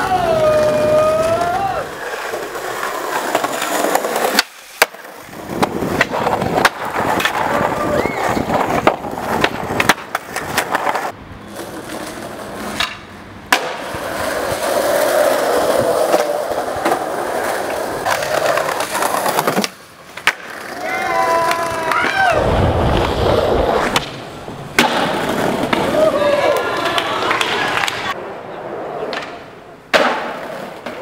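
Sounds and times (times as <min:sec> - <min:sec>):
skateboard wheels rolling on concrete: 0:00.0 - 0:31.0
skateboard trucks scraping stone ledge: 0:00.1 - 0:31.0
skateboard popping and landing clacks: 0:01.1 - 0:22.2, 0:22.9 - 0:28.2, 0:29.0 - 0:31.0.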